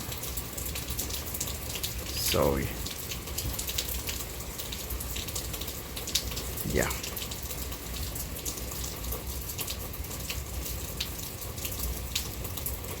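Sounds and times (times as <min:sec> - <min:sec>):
rain falling: 0:00.0 - 0:13.0
sharp drips: 0:00.0 - 0:13.0.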